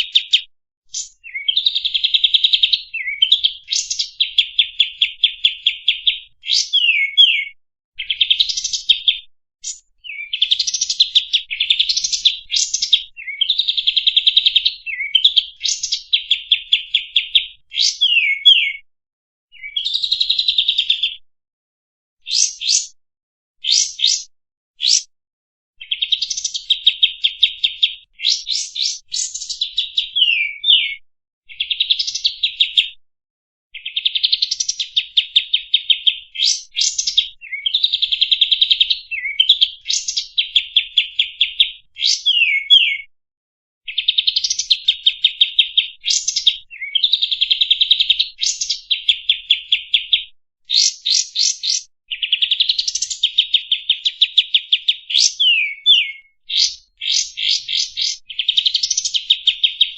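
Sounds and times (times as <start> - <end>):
songbird singing buzzy trills: 0.0 - 18.8, 22.3 - 23.0, 23.6 - 25.1, 25.8 - 32.8, 33.8 - 43.1, 43.9 - 59.9.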